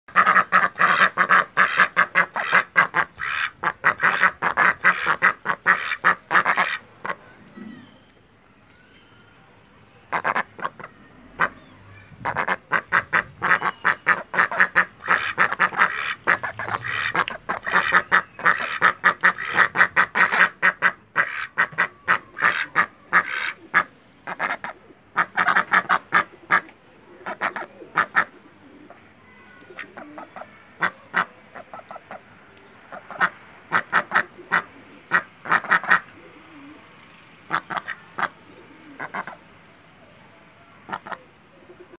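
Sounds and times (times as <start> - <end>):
ducks quacking: 0.1 - 7.2, 10.1 - 28.4, 29.8 - 32.3, 32.9 - 36.2, 37.5 - 39.5, 40.8 - 41.3.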